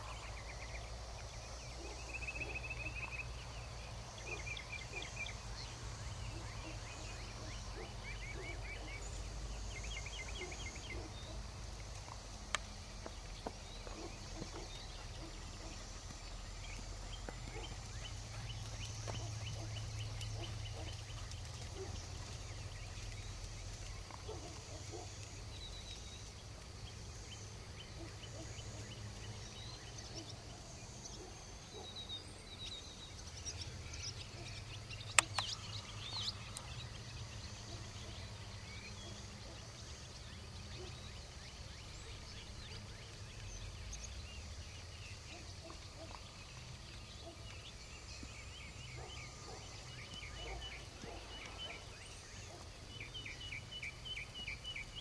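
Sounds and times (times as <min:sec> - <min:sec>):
birds calling faintly: 0:00.0 - 0:55.0.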